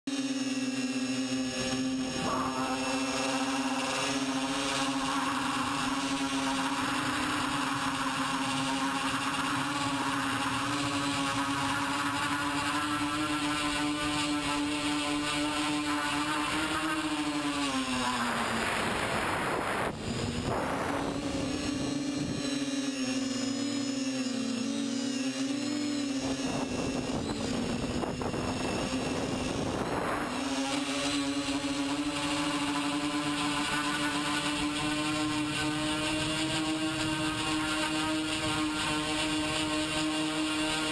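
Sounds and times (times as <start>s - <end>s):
quadcopter motors whining: 0.1s - 40.9s.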